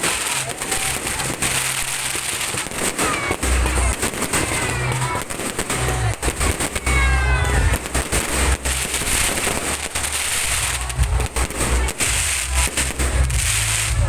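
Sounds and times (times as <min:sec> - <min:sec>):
fireworks bangs and crackles: 0:00.0 - 0:14.0
music with deep bass: 0:00.2 - 0:14.0.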